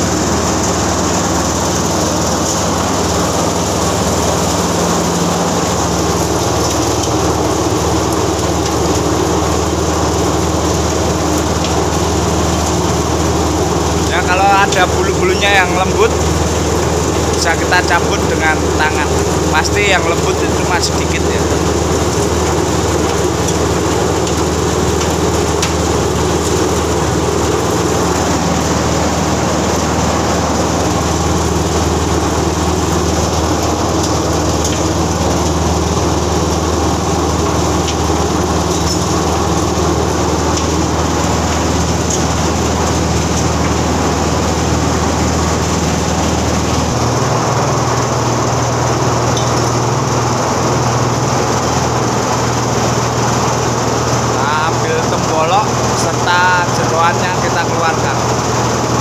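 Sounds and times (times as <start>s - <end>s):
plucking machine motor humming: 0.0s - 59.0s.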